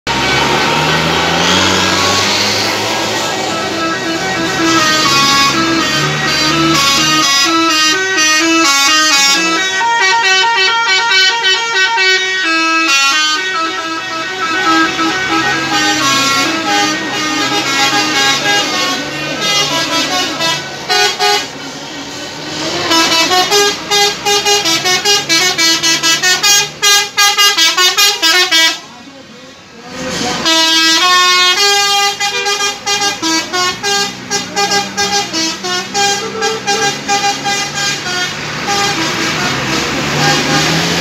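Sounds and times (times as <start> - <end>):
musical bus horns: 0.0 - 41.0.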